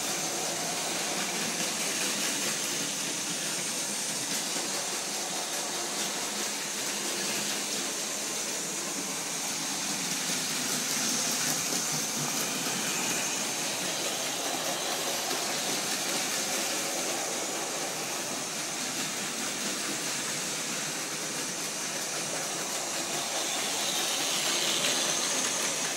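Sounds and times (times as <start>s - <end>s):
toy train motors whirring: 0.0s - 25.9s.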